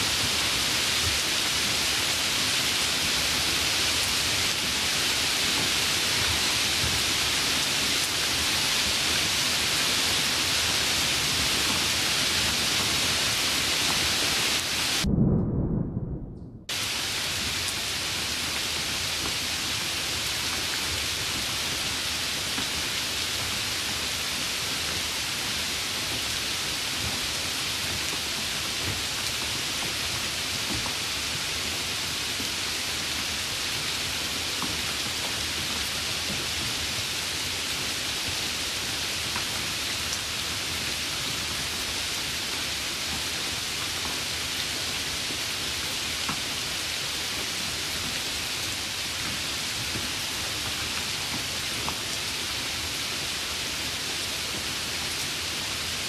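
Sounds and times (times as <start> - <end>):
steady rain hiss: 0.0 - 15.0, 16.7 - 56.0.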